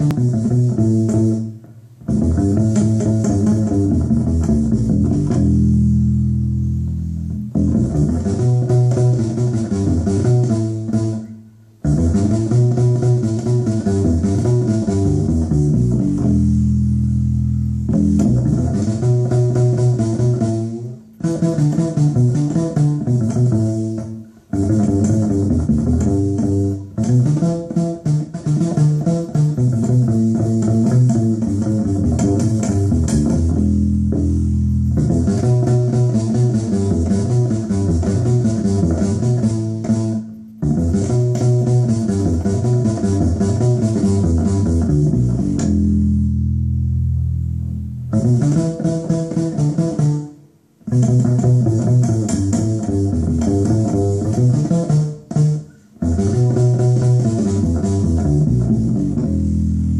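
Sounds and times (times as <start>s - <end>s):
upright bass plucked and slapped: 0.0s - 59.9s.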